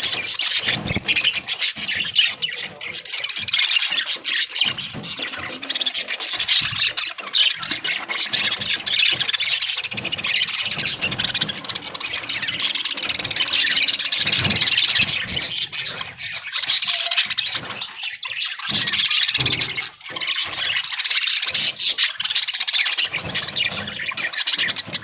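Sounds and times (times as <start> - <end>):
flock of budgerigars chirping: 0.0 - 25.0.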